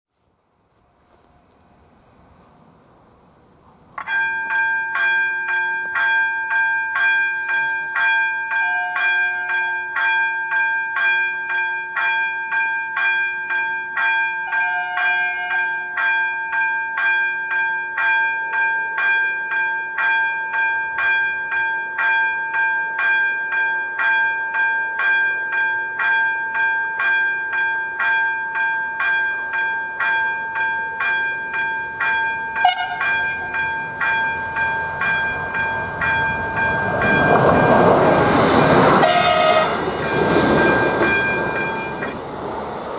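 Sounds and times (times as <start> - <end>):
level crossing warning bell ringing: 4.0 - 42.4.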